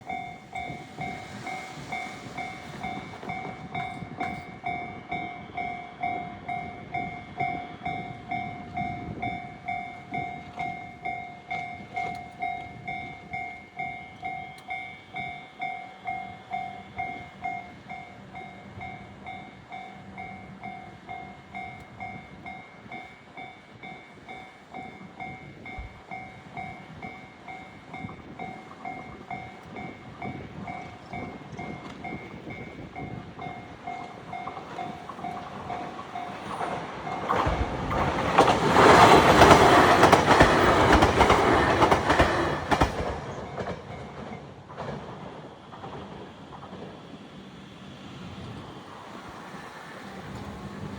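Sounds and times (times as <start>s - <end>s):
train rumbling past: 0.0s - 50.9s.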